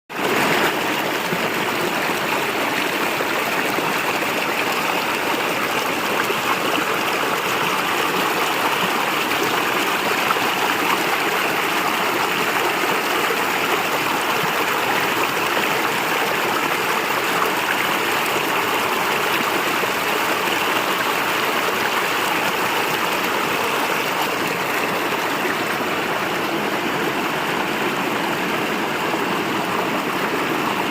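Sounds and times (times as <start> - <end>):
stream water rushing: 0.1 - 30.9.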